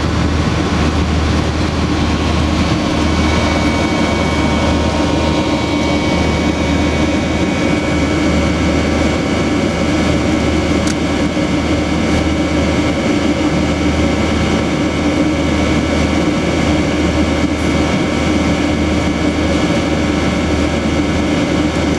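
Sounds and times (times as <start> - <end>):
thin high whine: 0.0 - 21.0
airliner cabin engine noise: 0.0 - 21.9
low hum: 0.0 - 21.9.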